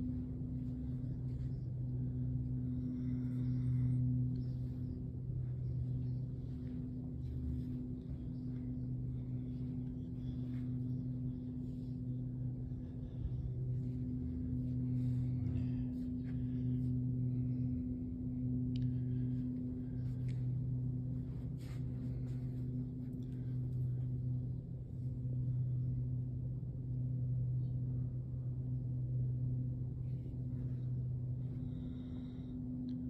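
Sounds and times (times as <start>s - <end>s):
low humming drone: 0.0s - 33.0s.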